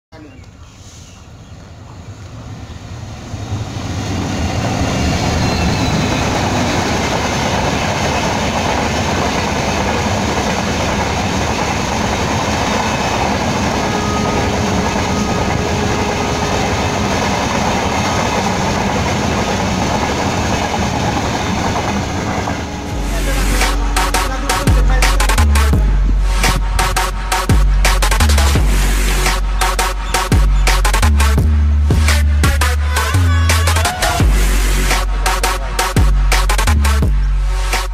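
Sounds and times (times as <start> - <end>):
diesel locomotive passing: 0.2 - 37.9
train wheels rushing on track: 0.8 - 31.4.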